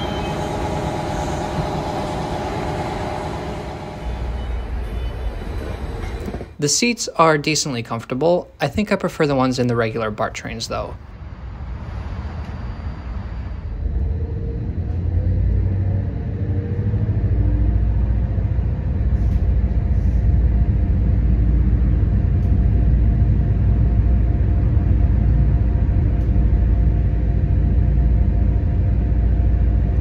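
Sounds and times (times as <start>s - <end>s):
engine tones humming: 0.0s - 6.6s, 9.7s - 30.0s
diesel train rumbling: 0.0s - 6.9s, 9.7s - 30.0s.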